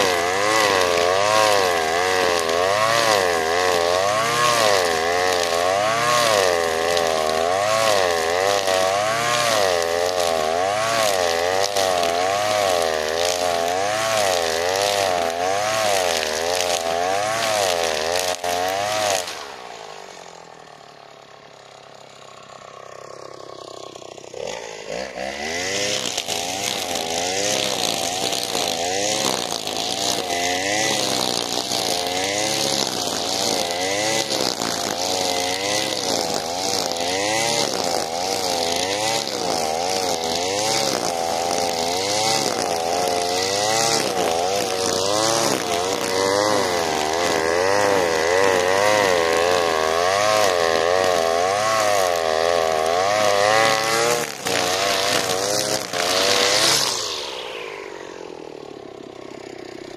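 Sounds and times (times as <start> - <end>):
brushcutter cutting grass: 0.0 - 59.9.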